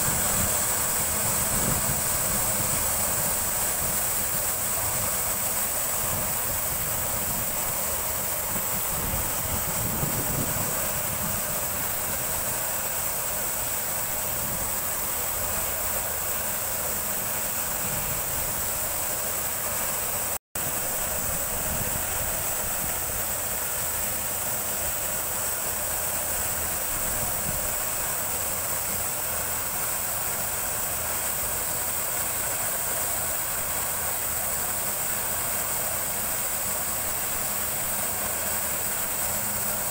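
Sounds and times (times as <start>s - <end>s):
constant high hiss: 0.0s - 39.9s.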